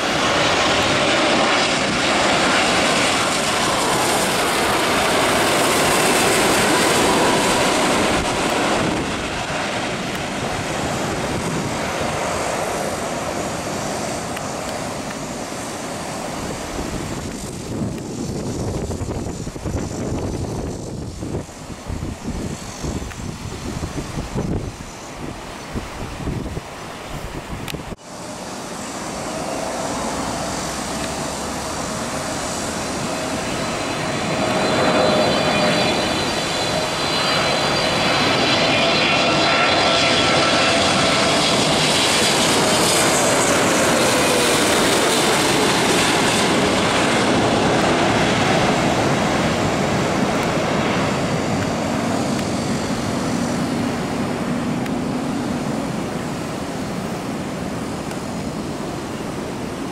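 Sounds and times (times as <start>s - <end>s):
jet engine whine: 0.0s - 59.9s
jet engines roaring overhead: 0.0s - 59.9s.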